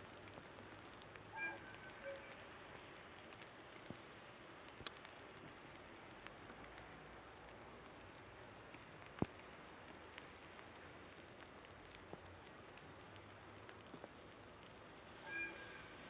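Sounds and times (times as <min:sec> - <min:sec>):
light ticks: 0:00.0 - 0:16.0
steady low hiss: 0:00.0 - 0:16.0.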